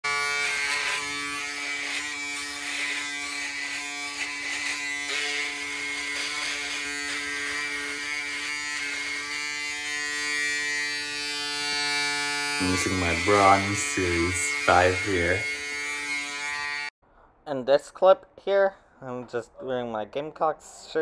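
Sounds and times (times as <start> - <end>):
electric shaver buzzing: 0.0 - 17.0.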